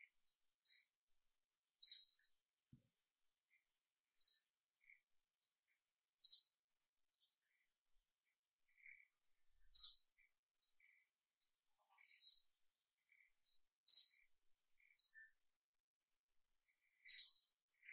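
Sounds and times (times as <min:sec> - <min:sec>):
soft bird chirps: 0:00.0 - 0:17.9.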